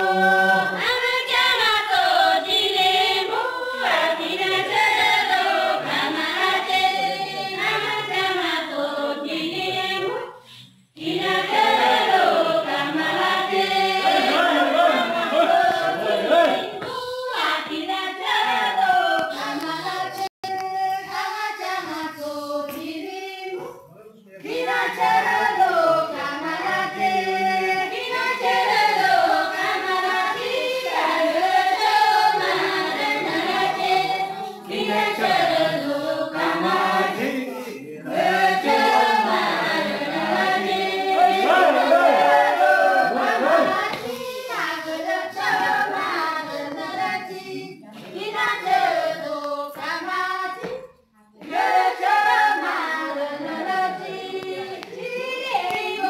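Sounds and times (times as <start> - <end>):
group singing folk song in chorus: 0.0 - 56.0.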